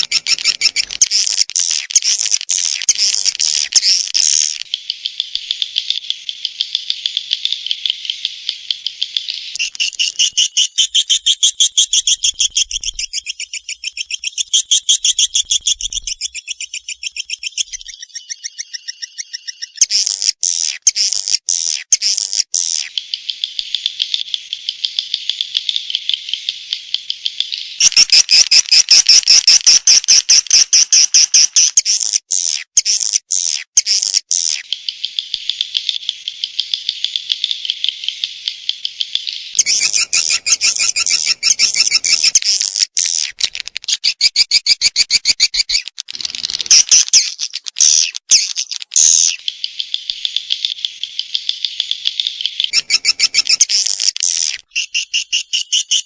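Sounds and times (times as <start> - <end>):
high-pitched bird chirping twitters: 0.0 - 56.0.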